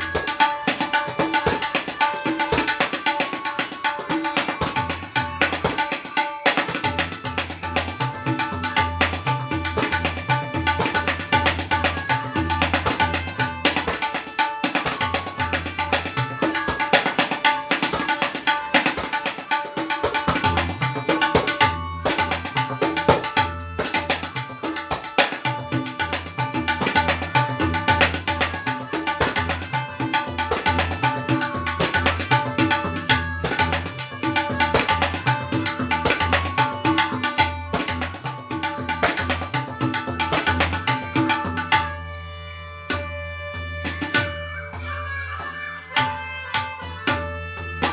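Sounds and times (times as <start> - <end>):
tabla playing: 0.0 - 47.9.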